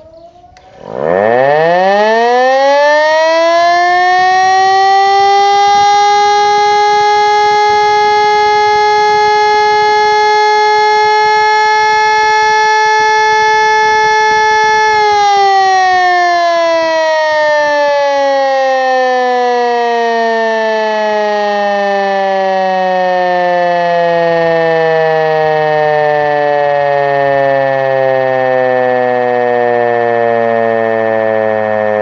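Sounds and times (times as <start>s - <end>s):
siren wailing: 0.0s - 32.0s.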